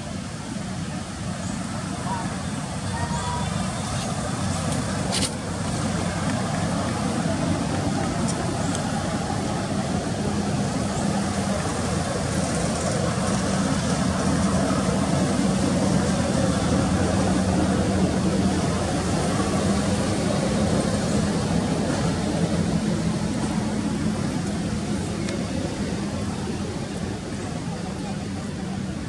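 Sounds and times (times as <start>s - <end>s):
engine drone: 0.0s - 29.0s.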